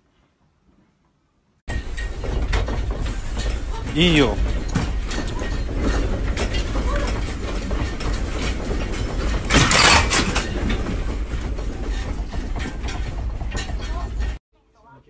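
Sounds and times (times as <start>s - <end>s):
house contents rattling: 1.7s - 14.4s.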